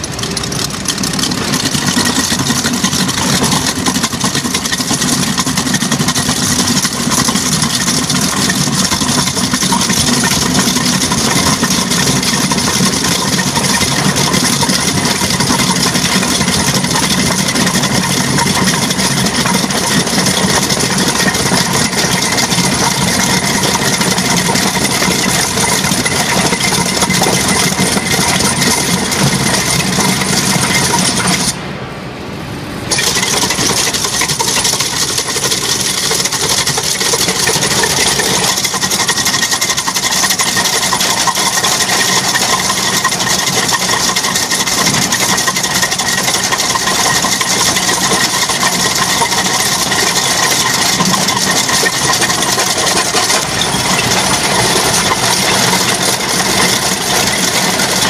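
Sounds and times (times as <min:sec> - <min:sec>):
hydraulic demolition machine breaking: 0:00.0 - 0:31.6, 0:32.8 - 0:58.0
constant machine hum: 0:00.0 - 0:58.0.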